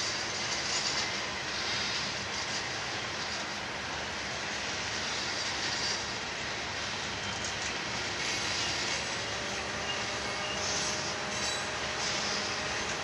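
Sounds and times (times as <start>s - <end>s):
freight train wheels on track: 0.0s - 13.0s.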